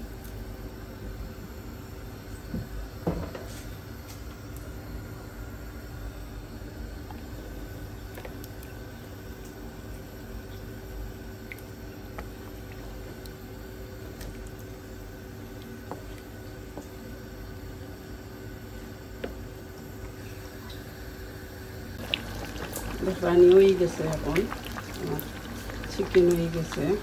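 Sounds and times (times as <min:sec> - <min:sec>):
pot bubbling softly: 0:04.3 - 0:27.0.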